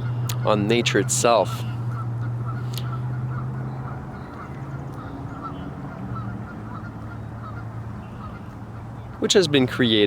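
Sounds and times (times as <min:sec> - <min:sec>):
steady low hum: 0:00.0 - 0:09.2
geese honking: 0:00.0 - 0:10.0.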